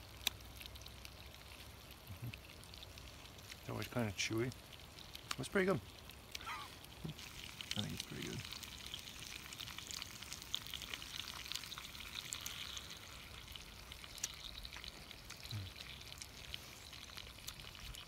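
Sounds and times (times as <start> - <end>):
fish sizzling in a frying pan: 0.0 - 18.0.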